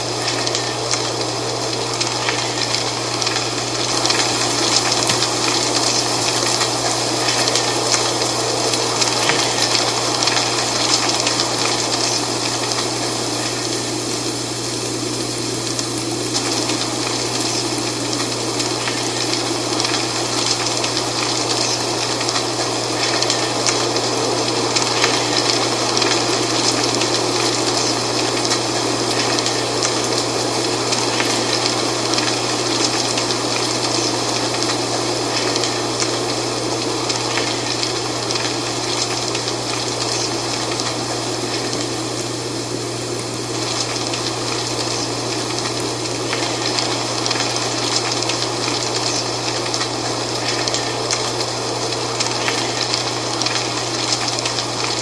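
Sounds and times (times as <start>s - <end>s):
dry leaves rustling in wind: 0.0s - 55.0s.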